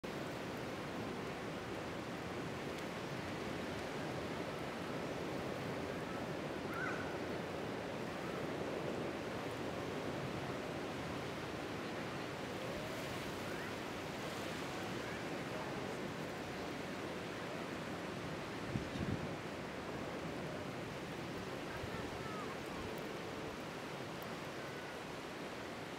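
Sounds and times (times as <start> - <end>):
ocean waves breaking on beach: 0.1 - 25.9.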